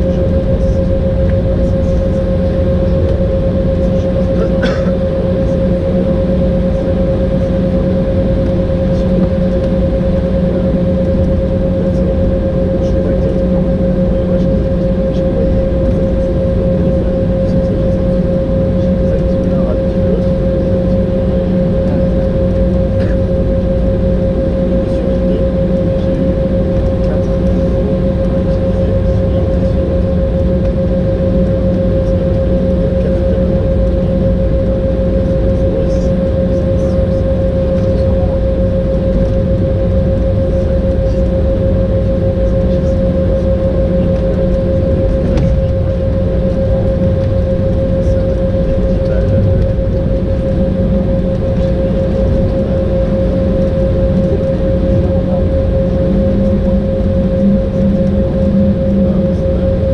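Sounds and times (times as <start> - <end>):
airliner cabin noise taxiing: 0.0 - 59.9.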